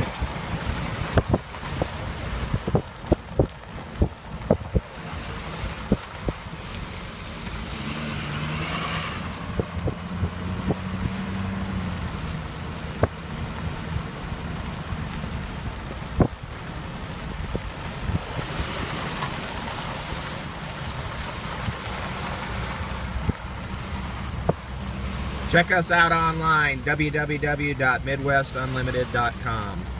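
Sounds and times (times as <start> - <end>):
wind buffeting microphone: 0.0 - 7.6, 8.4 - 25.4.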